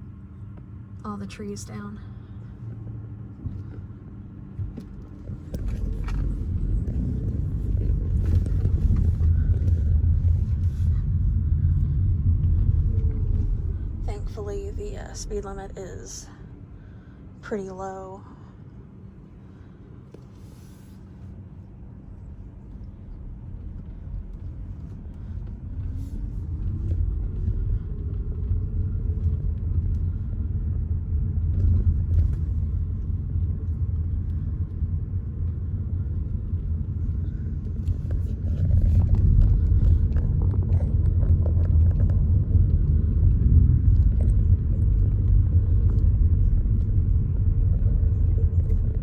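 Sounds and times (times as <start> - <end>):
road rumble: 0.0 - 49.0
car engine accelerating: 1.1 - 16.8, 22.1 - 49.0.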